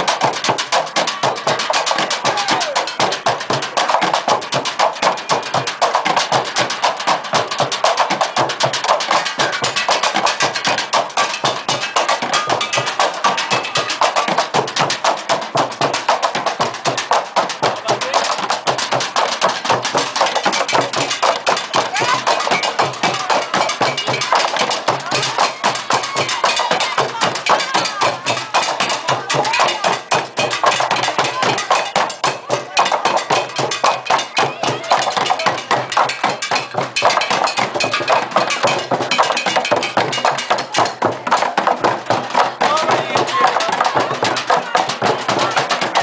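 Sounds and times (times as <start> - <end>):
drumming on plastic jugs: 0.0 - 46.0
voices calling out: 0.0 - 46.0.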